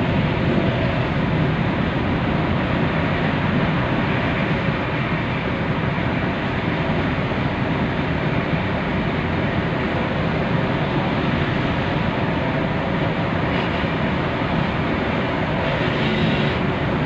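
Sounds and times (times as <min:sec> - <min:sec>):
car road and tyre noise: 0:00.0 - 0:17.0.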